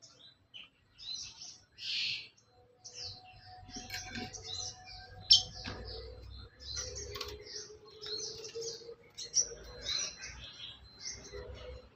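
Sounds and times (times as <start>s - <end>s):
songbirds chirping and twittering: 0.0s - 11.9s.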